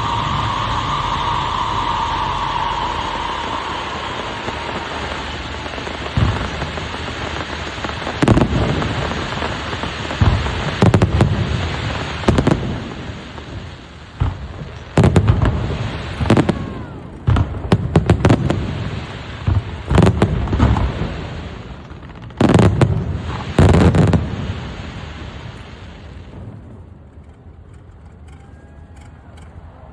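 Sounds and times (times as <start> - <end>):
fireworks bangs with rumble: 0.0 - 28.3.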